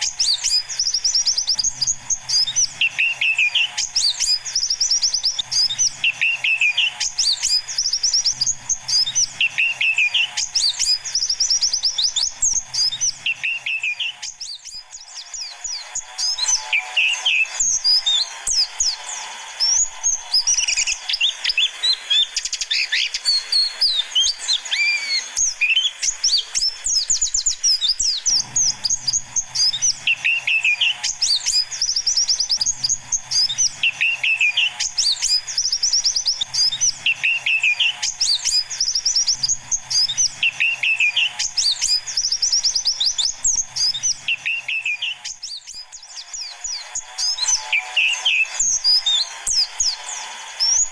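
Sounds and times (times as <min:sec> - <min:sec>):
birds twittering high chirps: 0:00.0 - 0:50.9.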